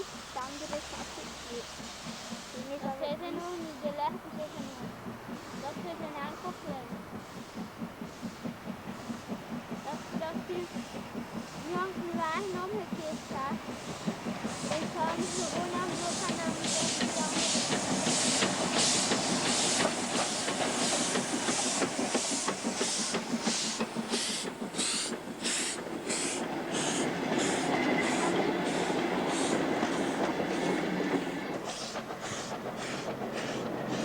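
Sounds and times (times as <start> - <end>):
locomotive running rumble: 0.0 - 34.0
steam locomotive exhaust chuffing: 0.0 - 34.0.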